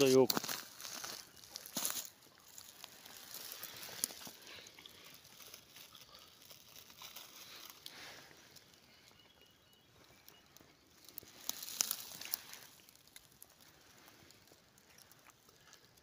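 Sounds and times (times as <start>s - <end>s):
dry leaves rustling and crackling: 0.0s - 16.0s.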